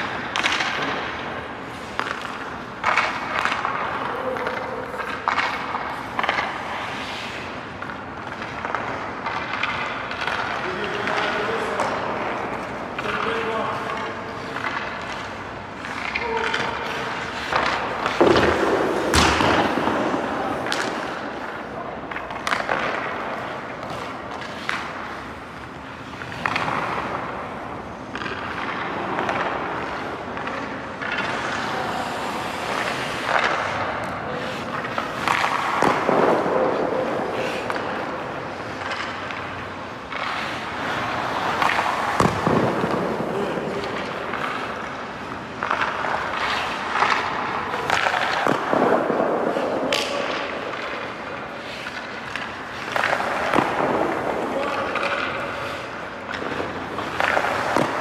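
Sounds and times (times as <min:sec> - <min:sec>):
skate blades scraping on ice: 0:00.0 - 0:58.0.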